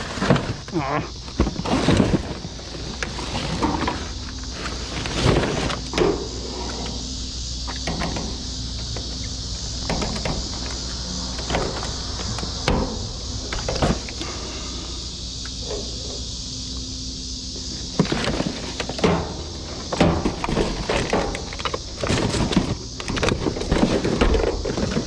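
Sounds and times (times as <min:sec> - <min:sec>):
knocks clatters and rustles: 0:00.0 - 0:14.3, 0:17.9 - 0:25.0
steady low hum and hiss: 0:00.0 - 0:25.0.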